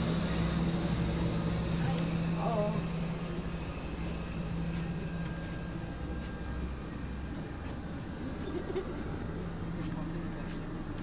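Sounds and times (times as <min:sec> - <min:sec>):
air conditioning and fans humming: 0:00.0 - 0:11.0.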